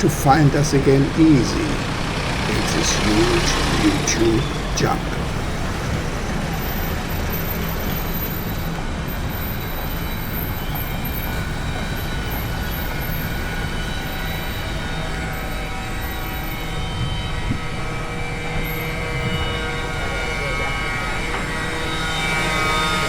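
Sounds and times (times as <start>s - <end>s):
street traffic: 0.0s - 23.0s.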